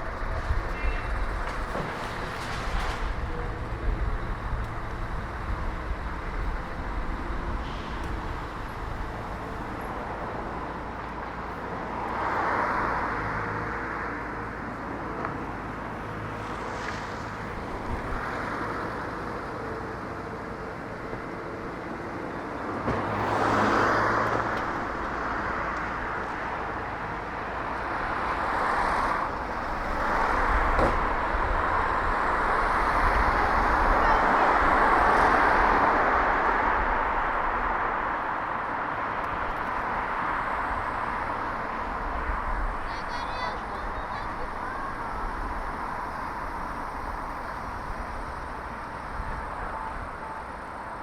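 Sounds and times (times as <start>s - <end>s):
cars passing by: 0.0s - 51.0s
low traffic rumble: 0.0s - 51.0s.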